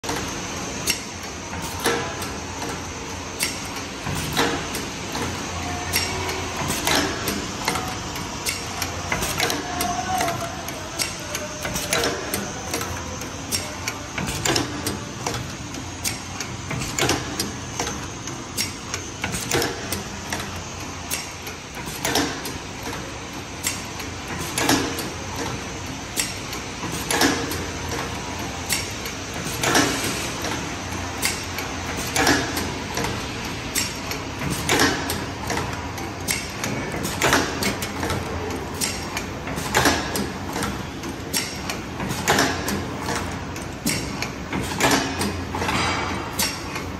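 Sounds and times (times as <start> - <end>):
paper cup forming machine running: 0.0 - 46.9.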